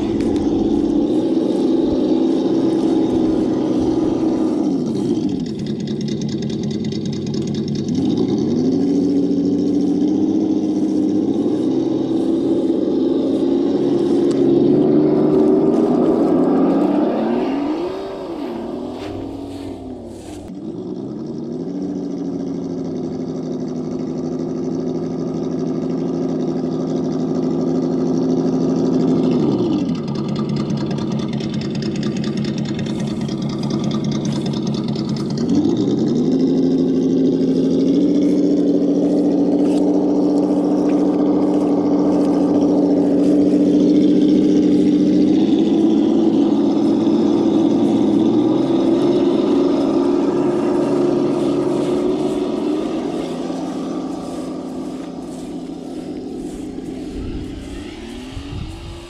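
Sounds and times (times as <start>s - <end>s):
simulated engine sound: 0.0s - 59.0s.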